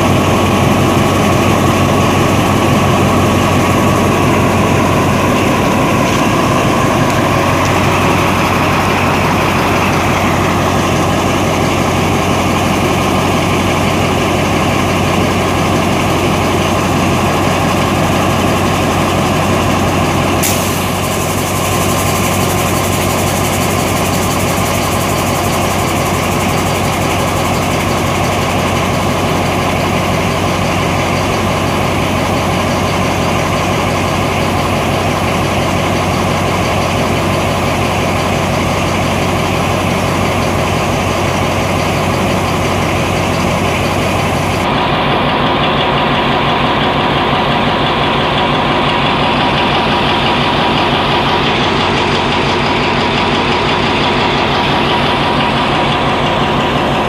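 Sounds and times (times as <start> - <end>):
diesel locomotive idling: 0.0 - 57.0.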